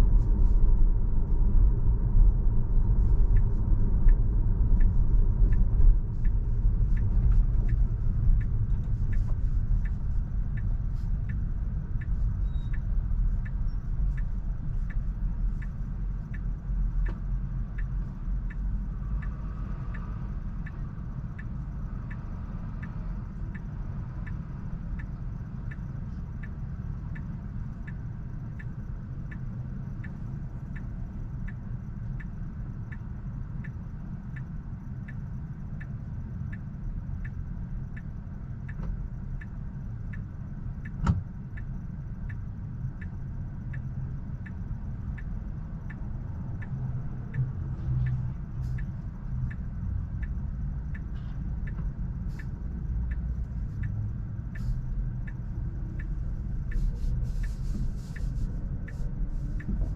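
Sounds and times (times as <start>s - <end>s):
road and tyre rumble: 0.0s - 59.9s
turn signal ticking: 0.0s - 59.9s.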